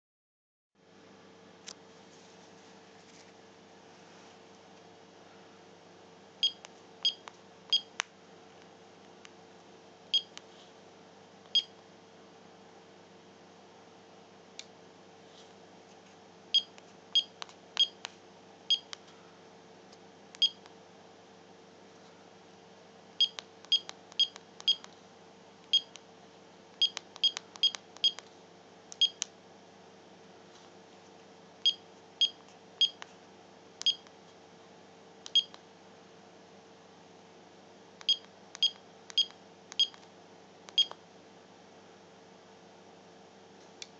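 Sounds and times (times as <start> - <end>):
faint steady hum: 0.8 - 43.9.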